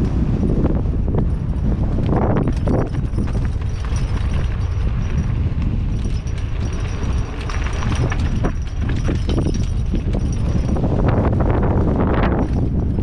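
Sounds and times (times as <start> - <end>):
wind on microphone: 0.0 - 13.0
mountain bike rattling on dirt trail: 0.1 - 13.0.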